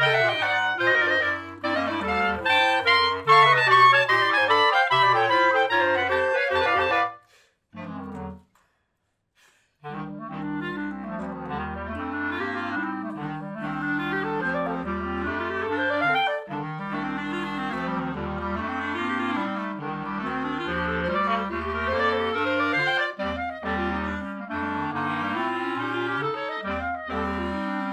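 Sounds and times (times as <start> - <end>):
clarinet quartet playing: 0.0 - 7.2, 7.8 - 8.4, 9.9 - 27.9.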